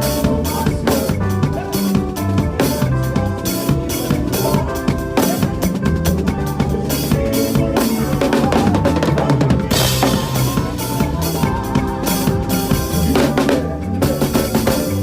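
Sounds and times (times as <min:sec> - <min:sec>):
backing track music: 0:00.0 - 0:15.0
drum kit groove: 0:00.0 - 0:15.0.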